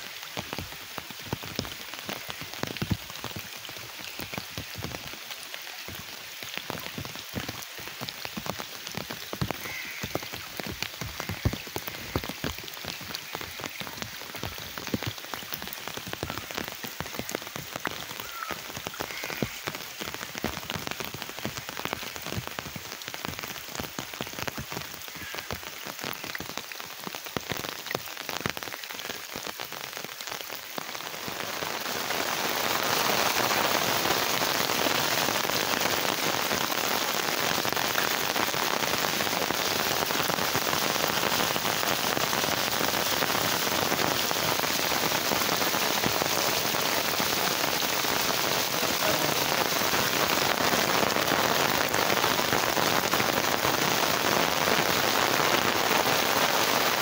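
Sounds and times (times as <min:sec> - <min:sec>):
rain falling on puddles: 0:00.0 - 0:57.0.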